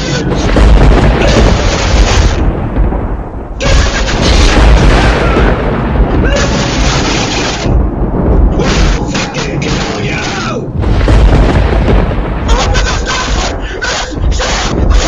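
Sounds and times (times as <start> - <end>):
deep boom sound effects: 0.3 - 13.6.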